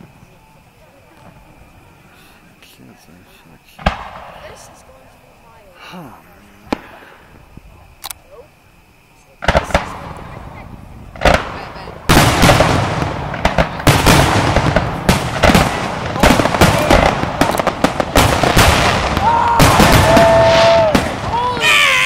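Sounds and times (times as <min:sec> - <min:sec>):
fireworks bursting: 0:00.0 - 0:08.2, 0:09.2 - 0:22.0.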